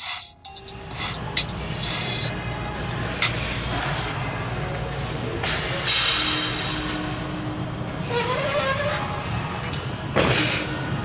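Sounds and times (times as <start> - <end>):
gym room rumble: 0.4 - 11.0.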